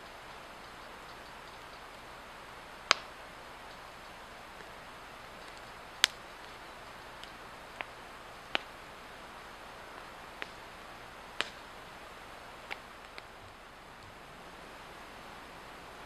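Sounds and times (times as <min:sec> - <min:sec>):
fire crackling with sharp pops: 0:00.0 - 0:16.0
steady hiss of fire: 0:00.0 - 0:16.0.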